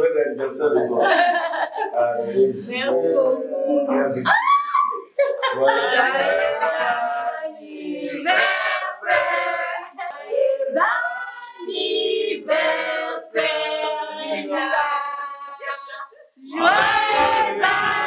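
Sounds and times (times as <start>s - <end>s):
women singing: 1.7s - 18.0s.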